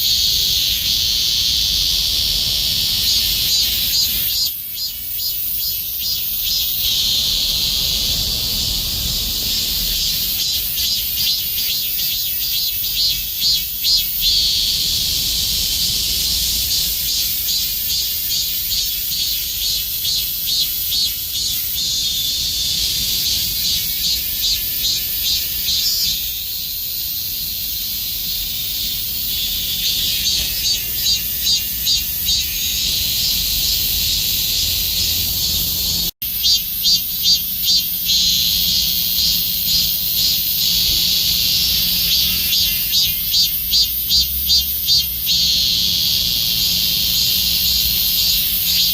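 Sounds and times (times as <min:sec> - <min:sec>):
cicada singing: 0:00.0 - 0:48.9.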